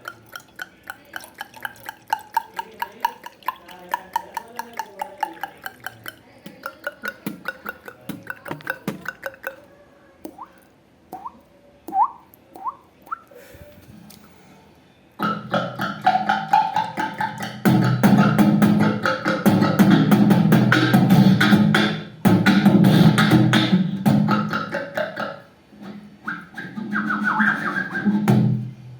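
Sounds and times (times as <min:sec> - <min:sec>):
vocal beatboxing: 0:00.0 - 0:13.4, 0:15.2 - 0:28.6.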